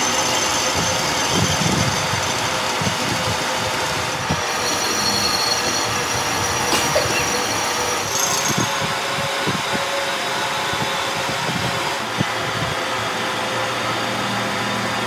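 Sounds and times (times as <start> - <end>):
workshop machinery whirring: 0.0 - 15.0.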